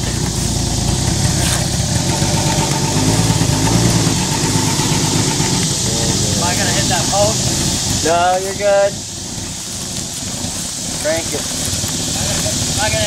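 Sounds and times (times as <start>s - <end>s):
engine idling rumble: 0.0s - 13.0s
faint steady whine: 0.0s - 13.0s.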